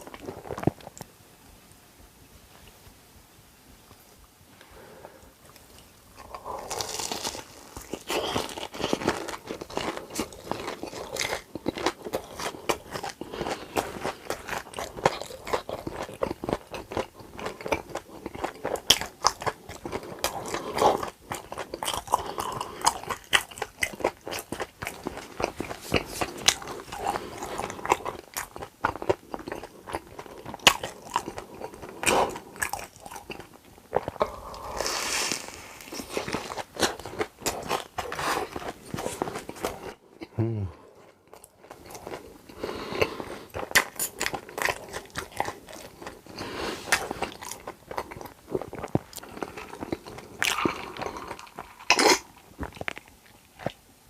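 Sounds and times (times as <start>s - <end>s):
crunchy food chewing: 0.0s - 1.1s, 5.4s - 53.9s.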